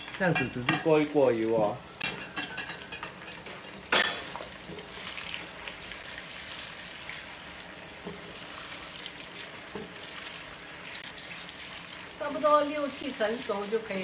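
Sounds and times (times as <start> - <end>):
chicken sizzling in oil: 0.0 - 14.0
spatula stirring in wok: 2.1 - 14.0.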